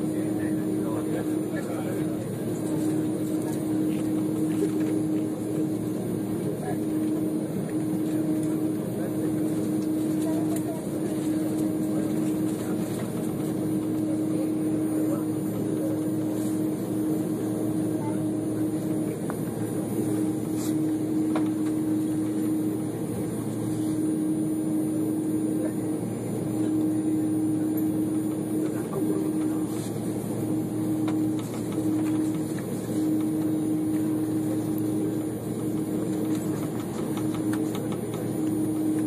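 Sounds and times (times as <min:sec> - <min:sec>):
jet airliner cabin rumble: 0:00.0 - 0:39.0.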